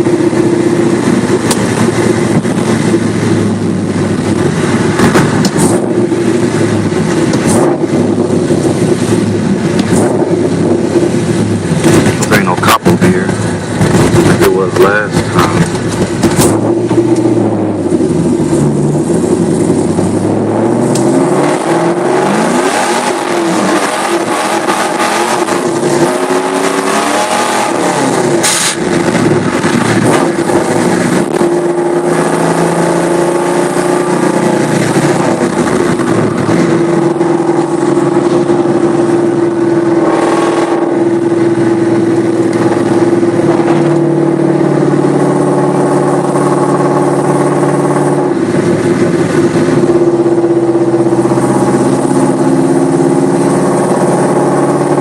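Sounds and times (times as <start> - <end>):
car engine accelerating and shifting: 0.0 - 55.0.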